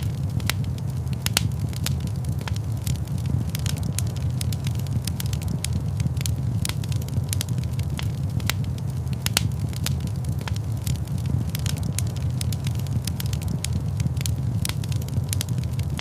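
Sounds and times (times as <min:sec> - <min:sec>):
fire pops and snaps: 0:00.0 - 0:16.0
log fire crackling: 0:00.0 - 0:16.0
low rumble of flames: 0:00.0 - 0:16.0.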